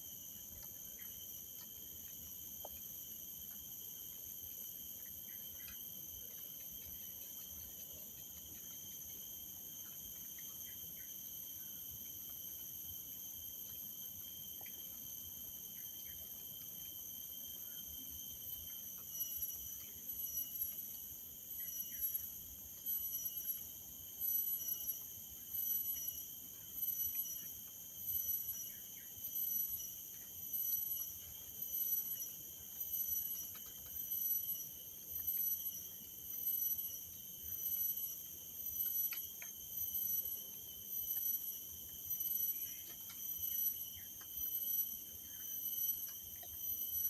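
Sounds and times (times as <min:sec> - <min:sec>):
insects chorus: 0:00.0 - 0:47.0.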